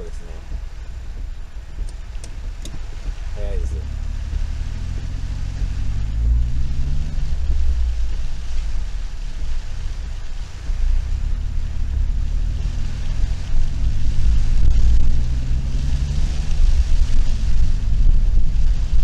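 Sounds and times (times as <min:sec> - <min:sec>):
engine and tyres on wet road: 0:00.0 - 0:19.0
hard rain hissing: 0:00.0 - 0:19.0
wind: 0:00.0 - 0:19.0.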